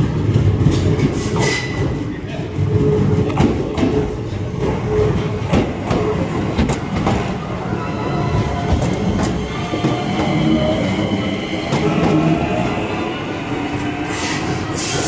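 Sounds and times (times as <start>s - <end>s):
steady train whine: 0.0s - 15.0s.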